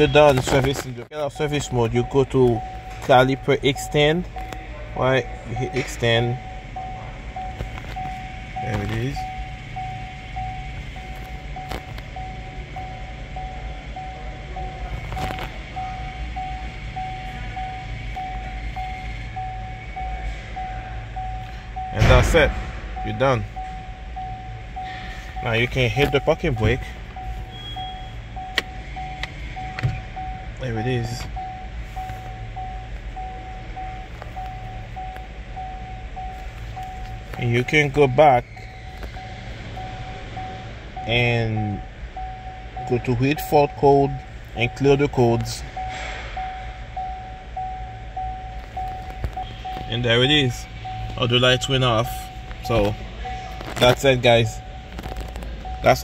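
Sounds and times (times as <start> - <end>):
car warning chime beeping: 0.0 - 56.0
low steady hum: 0.0 - 56.0.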